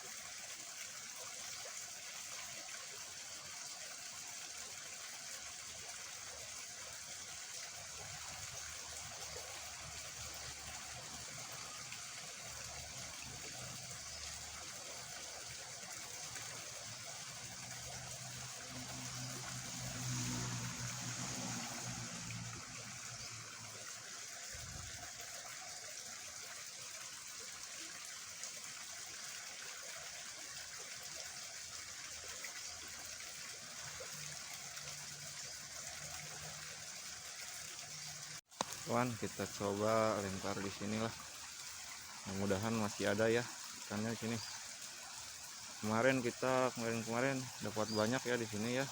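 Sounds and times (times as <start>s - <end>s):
water rushing in ditch: 0.0s - 48.9s.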